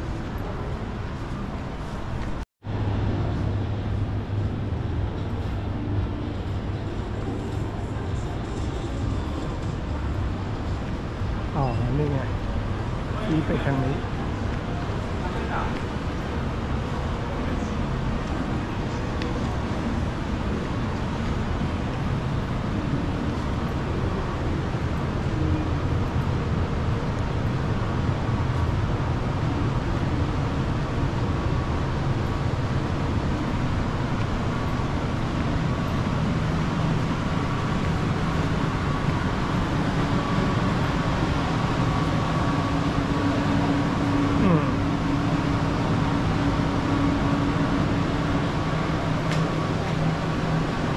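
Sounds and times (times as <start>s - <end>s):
city street low rumble: 0.0s - 50.9s
steady low hum: 0.0s - 50.9s.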